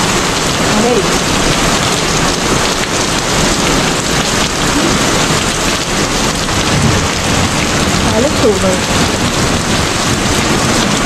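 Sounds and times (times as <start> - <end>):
heavy rain on ground and car: 0.0 - 11.0.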